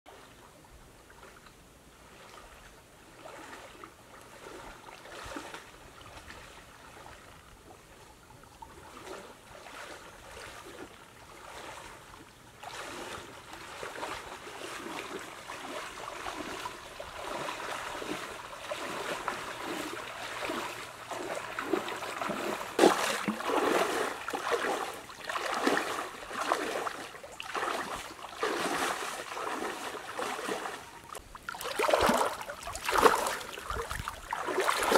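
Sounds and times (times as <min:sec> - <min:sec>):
water splashing with wading steps: 0:00.1 - 0:34.9.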